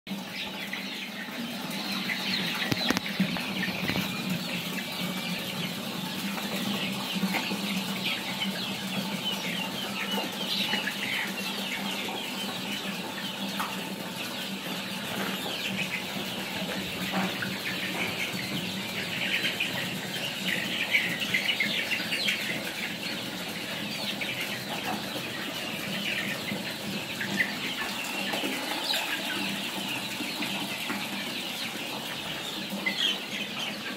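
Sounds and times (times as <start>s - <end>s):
chickens and chicks peeping: 0.1s - 33.9s.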